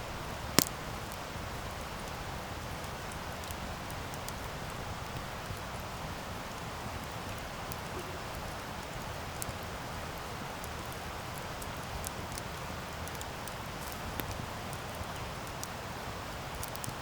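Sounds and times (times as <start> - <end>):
campfire flames hissing: 0.0 - 17.0
wood crackling and popping: 0.3 - 17.0.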